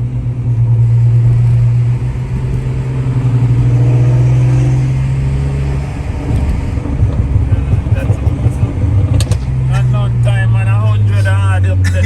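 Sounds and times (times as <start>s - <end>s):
turbo car engine droning: 0.0s - 12.0s.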